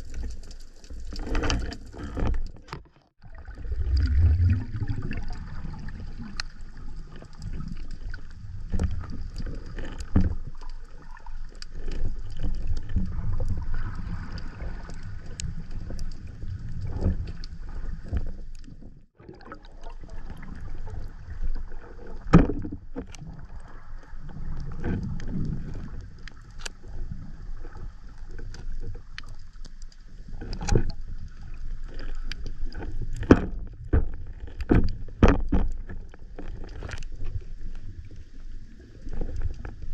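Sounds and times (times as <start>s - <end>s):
low underwater noise: 0.0s - 39.9s.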